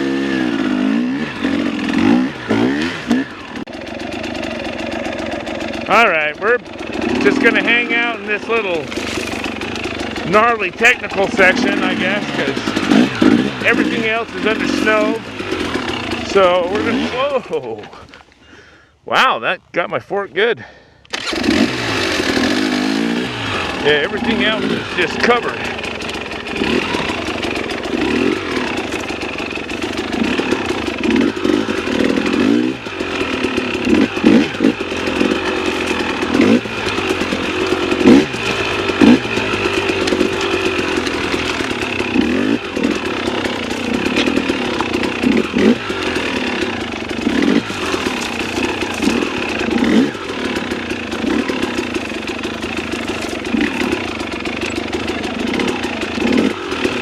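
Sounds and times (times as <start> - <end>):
dirt bike engine revving: 0.0 - 18.2, 20.6 - 57.0.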